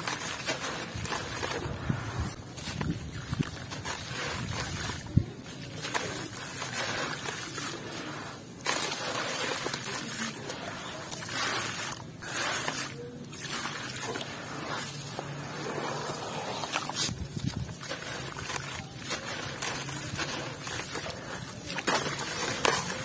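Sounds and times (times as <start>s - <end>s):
gritty chunks splashing into water: 0.0s - 23.0s
hands squelching wet slurry: 0.0s - 23.0s.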